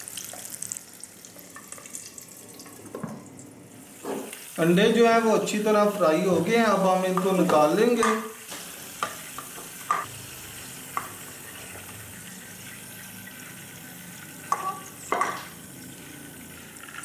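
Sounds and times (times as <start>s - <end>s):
hot oil sizzling in a pan: 0.0s - 2.6s, 3.8s - 17.0s.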